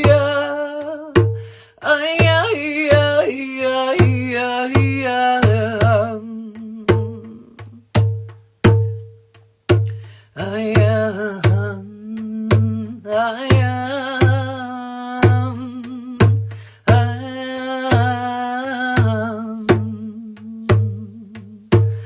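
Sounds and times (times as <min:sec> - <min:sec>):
hand drum beating: 0:00.0 - 0:01.5, 0:02.1 - 0:22.0
woman chanting: 0:00.0 - 0:07.9, 0:10.3 - 0:22.0.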